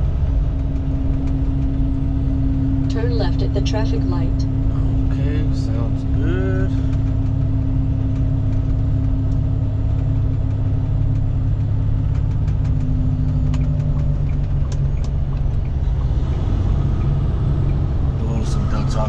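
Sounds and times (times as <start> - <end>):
diesel engine rumbling: 0.0 - 19.0
steady hum: 0.0 - 19.0.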